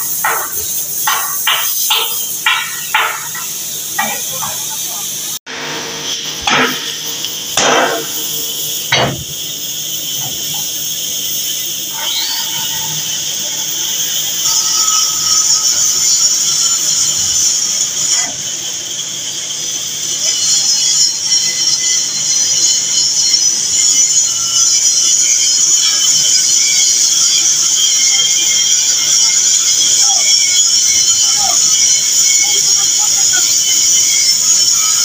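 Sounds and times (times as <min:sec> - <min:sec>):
cutting torch hissing: 0:00.0 - 0:35.0.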